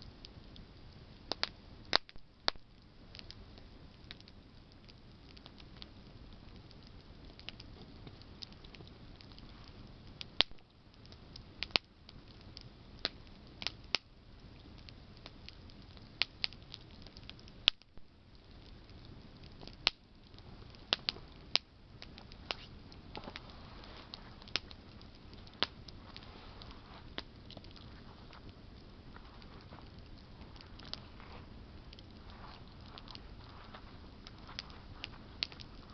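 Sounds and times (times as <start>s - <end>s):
campfire crackling and popping: 0.0s - 35.9s
hiss of flames: 0.0s - 35.9s.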